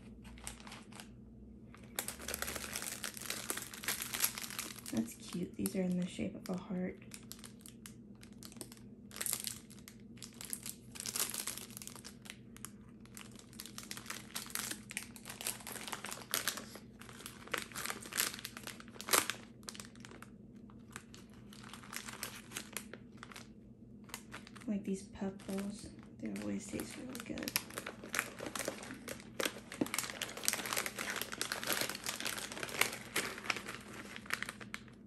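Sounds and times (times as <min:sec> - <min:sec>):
plastic wrappers crinkling: 0:00.0 - 0:35.0.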